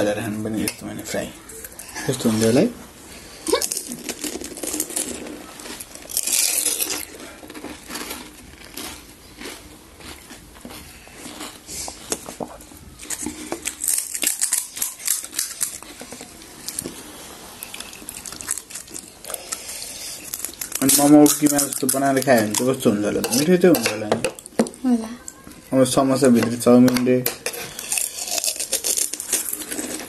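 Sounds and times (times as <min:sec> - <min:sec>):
crackling and crinkling: 0:00.6 - 0:30.0.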